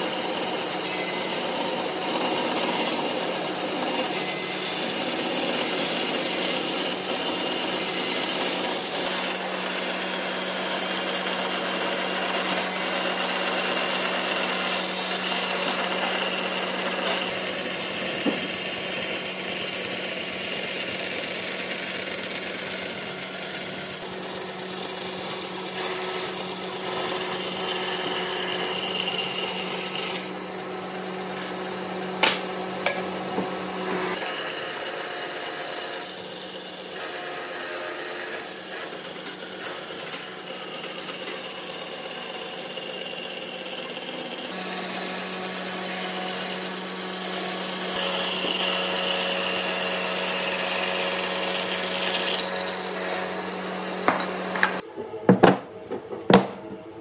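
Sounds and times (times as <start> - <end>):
power tool sanding wood: 0.0 - 54.9.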